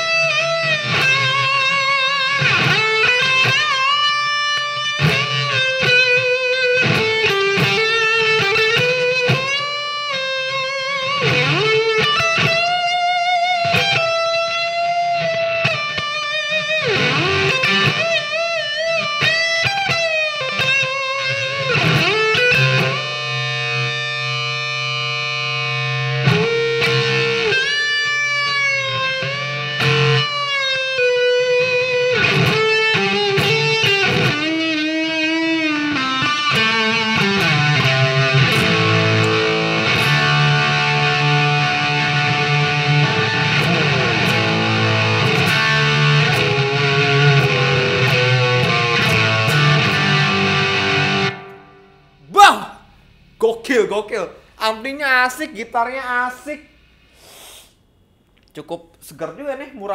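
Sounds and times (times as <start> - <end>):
overdriven electric guitar lead: 0.0 - 53.4
electric guitar chord ringing: 0.0 - 53.6.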